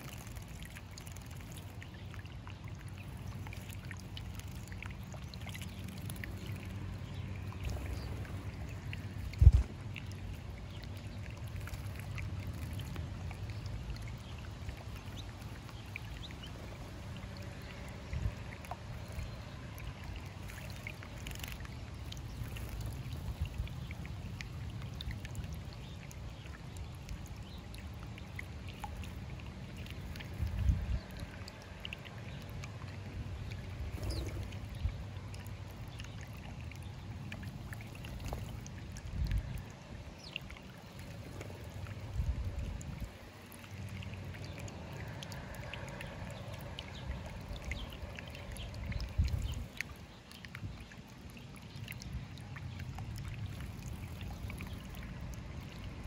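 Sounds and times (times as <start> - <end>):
fountain water trickling: 0.0 - 56.0.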